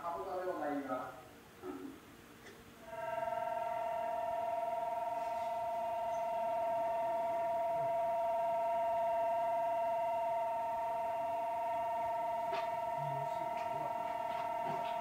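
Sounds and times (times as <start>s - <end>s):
two-note electronic tone: 2.8s - 15.0s.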